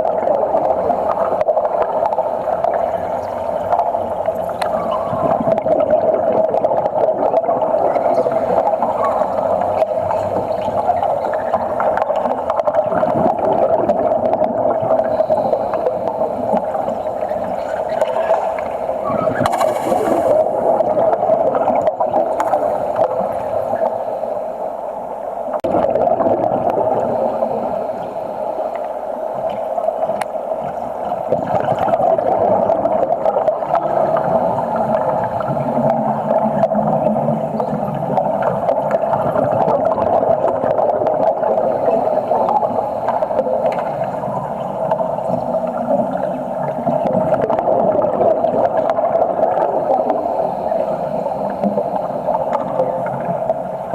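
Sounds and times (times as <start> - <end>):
underwater bubbling gurgling rush: 0.0 - 53.9.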